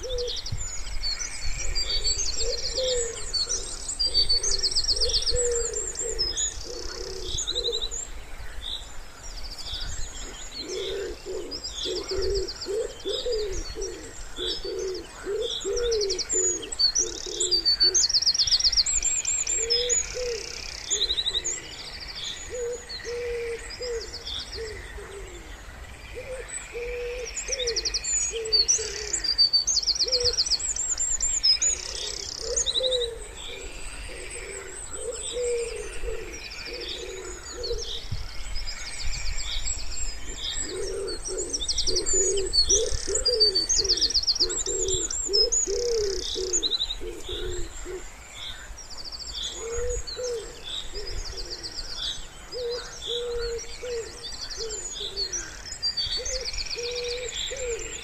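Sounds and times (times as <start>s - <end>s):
wood pigeons cooing: 0.0s - 0.5s, 1.6s - 8.1s, 10.2s - 18.2s, 19.4s - 21.8s, 22.4s - 30.7s, 31.6s - 38.2s, 40.1s - 48.1s, 49.4s - 58.0s
songbirds chirping and trilling: 0.0s - 58.0s.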